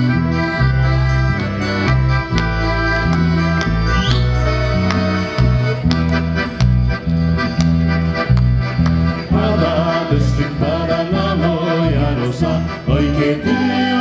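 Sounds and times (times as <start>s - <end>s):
accordion playing folk tune: 0.0s - 14.0s.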